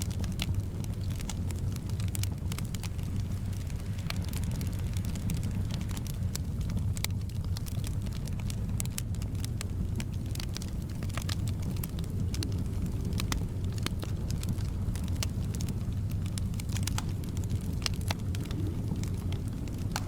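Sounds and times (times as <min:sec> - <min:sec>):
soft wind rumble: 0:00.0 - 0:20.0
wood fire crackling and popping: 0:00.0 - 0:20.0.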